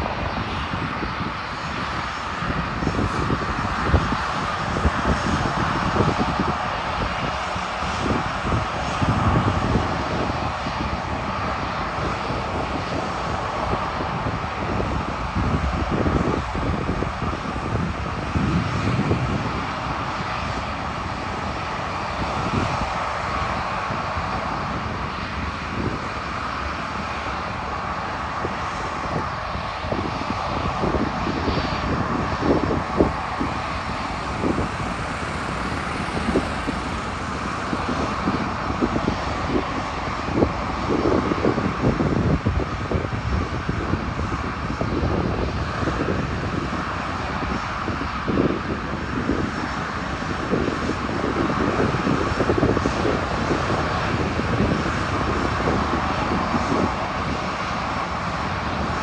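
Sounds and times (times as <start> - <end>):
jet engines running: 0.0 - 59.0
wind buffeting microphone: 0.0 - 59.0.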